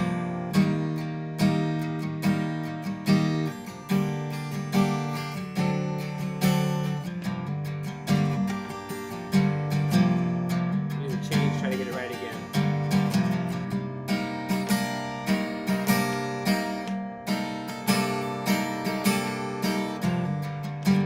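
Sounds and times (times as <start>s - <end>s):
guitar strumming: 0.0s - 21.0s.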